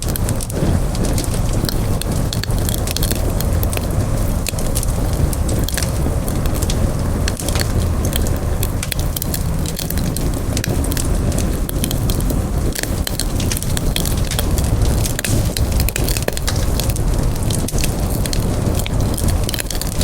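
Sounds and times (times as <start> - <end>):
campfire crackling and popping: 0.0 - 20.0
low rumble of burning: 0.0 - 20.0.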